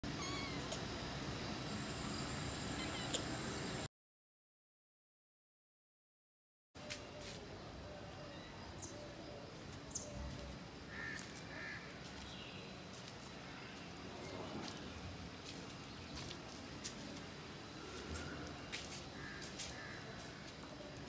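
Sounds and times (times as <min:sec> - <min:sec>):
faint outdoor background: 0:00.0 - 0:03.9, 0:06.8 - 0:21.0.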